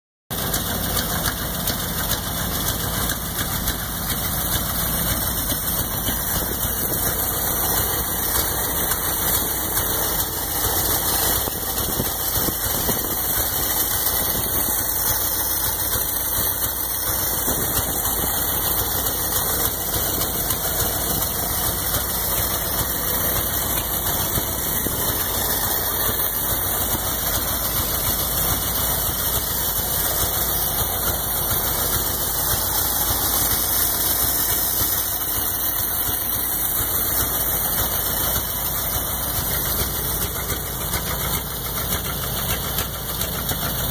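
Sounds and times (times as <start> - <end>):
truck engine idling: 0.3 - 43.9.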